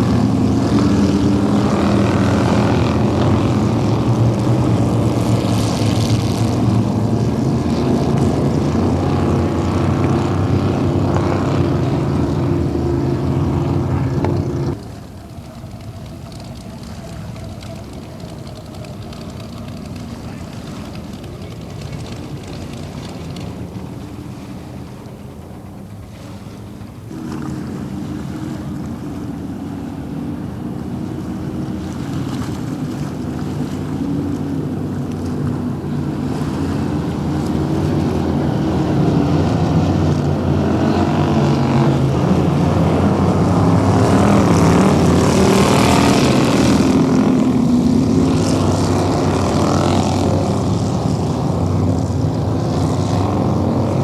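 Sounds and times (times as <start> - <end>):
racing powerboat engines: 0.0 - 54.0.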